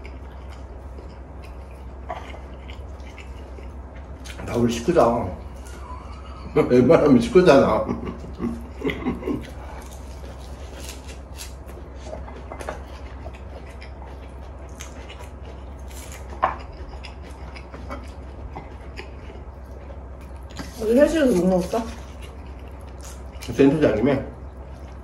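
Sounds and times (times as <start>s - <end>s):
chewing: 0.0s - 25.0s
steady low hum: 0.0s - 25.0s.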